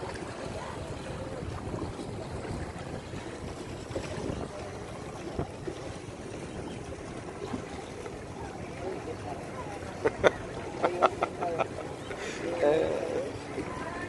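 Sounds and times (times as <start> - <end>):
sea water: 0.0 - 14.0
wind: 0.0 - 14.0.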